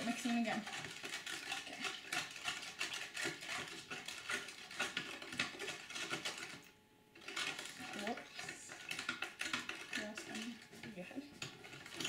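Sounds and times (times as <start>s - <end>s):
spoon clicking and scraping plastic: 0.0s - 12.0s
spoon stirring water: 0.0s - 12.0s.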